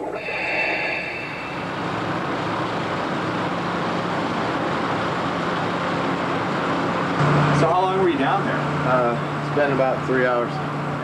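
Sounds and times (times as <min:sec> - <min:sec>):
construction machinery running: 0:00.0 - 0:11.0.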